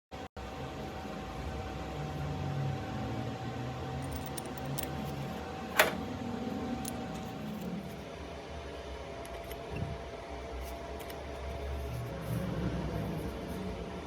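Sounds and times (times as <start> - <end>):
steady hum: 0.2 - 14.0.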